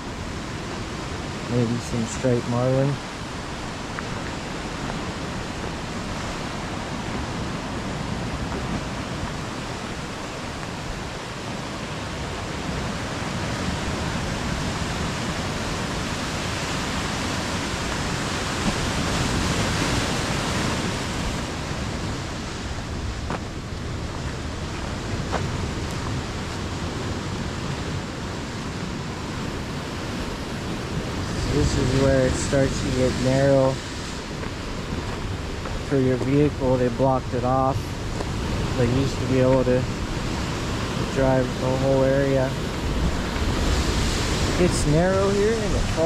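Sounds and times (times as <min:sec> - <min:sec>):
ocean surf: 0:00.0 - 0:46.0
wind: 0:00.0 - 0:46.0.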